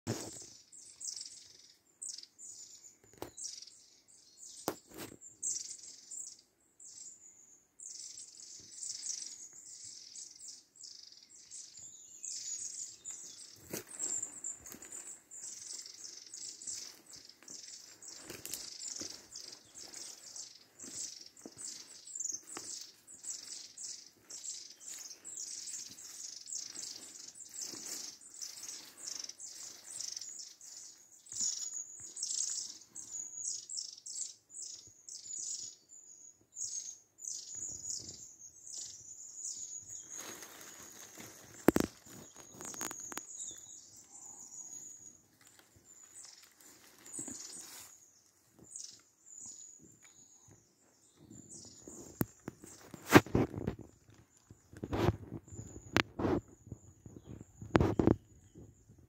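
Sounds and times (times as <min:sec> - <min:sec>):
songbirds singing: 0:00.1 - 0:59.0.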